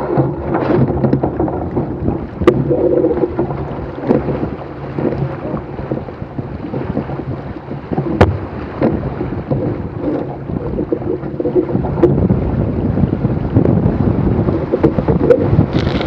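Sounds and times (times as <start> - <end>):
water rushing along boat hull: 0.0 - 16.0
water slapping hull: 0.0 - 16.0
wind buffeting microphone: 0.0 - 16.0.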